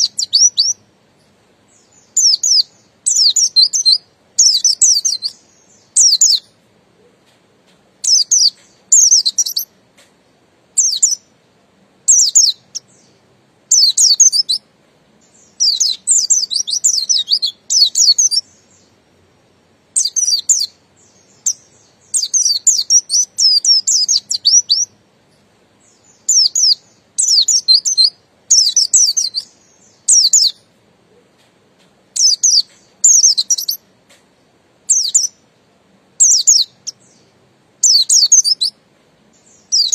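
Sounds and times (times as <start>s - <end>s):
bird twittering song: 0.0s - 11.4s, 12.0s - 19.3s, 19.9s - 35.6s, 36.2s - 39.9s.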